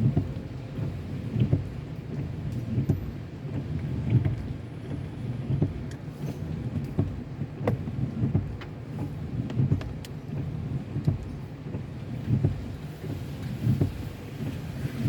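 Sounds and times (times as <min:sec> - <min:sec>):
low rumble of car and road: 0:00.0 - 0:15.0
raindrops ticking on car: 0:00.0 - 0:15.0.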